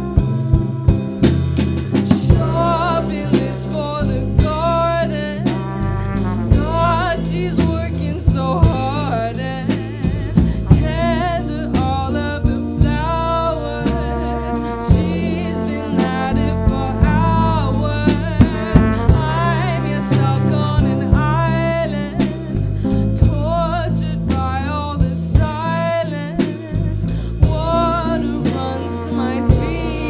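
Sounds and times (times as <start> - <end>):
drum kit beat: 0.0 - 30.0
electric bass: 0.0 - 30.0
woman singing with vibrato: 2.1 - 30.0.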